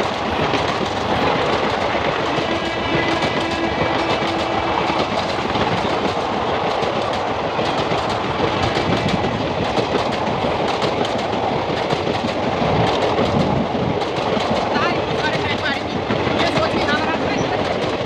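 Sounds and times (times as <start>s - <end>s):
train wheels clattering over rail joints: 0.0s - 18.0s.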